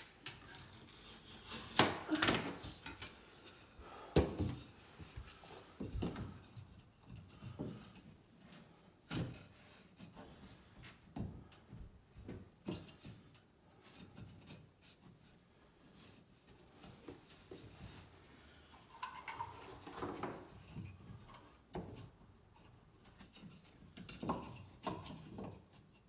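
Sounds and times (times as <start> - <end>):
objects being handled: 4.3 - 26.0.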